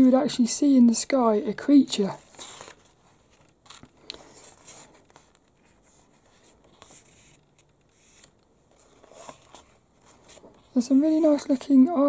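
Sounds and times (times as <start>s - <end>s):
magazine pages rustling: 1.9s - 12.0s.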